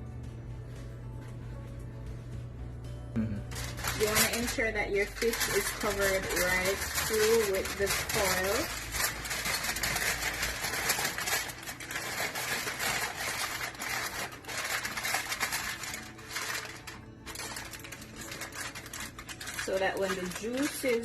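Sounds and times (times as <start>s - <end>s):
aluminium foil crinkling: 3.5s - 21.0s.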